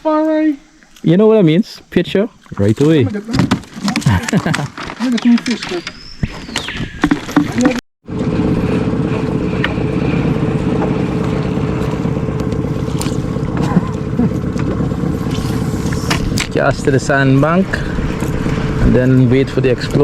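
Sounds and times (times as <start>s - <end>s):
outboard motor running: 0.7s - 5.8s, 7.0s - 20.0s.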